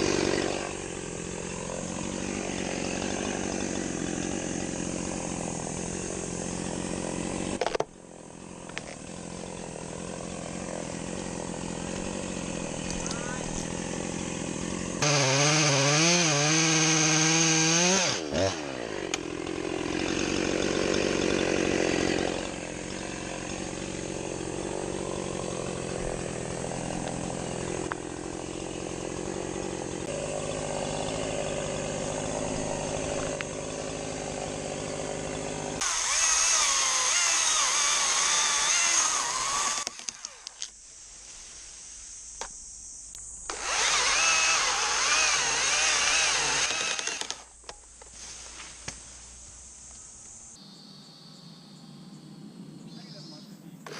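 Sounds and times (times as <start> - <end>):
chainsaw revving and cutting: 0.0 - 40.7, 43.4 - 47.5.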